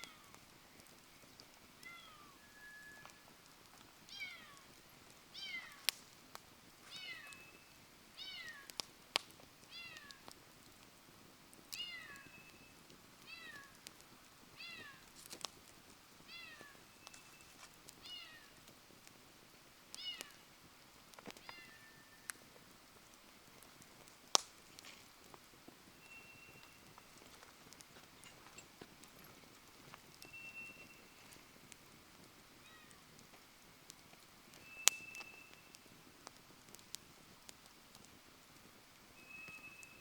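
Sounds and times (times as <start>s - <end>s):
campfire popping and crackling: 0.0s - 40.0s.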